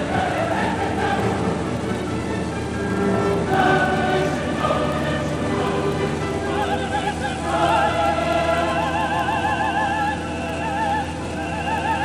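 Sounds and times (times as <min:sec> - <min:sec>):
low drone: 0:00.0 - 0:12.0
operatic singing voice: 0:00.0 - 0:12.0.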